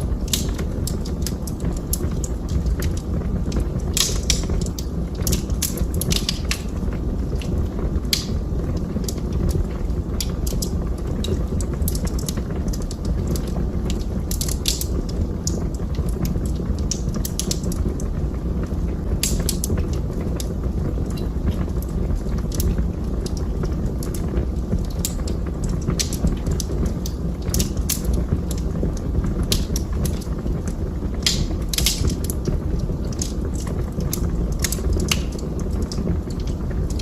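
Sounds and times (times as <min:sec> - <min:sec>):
fire crackling and popping: 0:00.0 - 0:37.0
fire rumbling: 0:00.0 - 0:37.0.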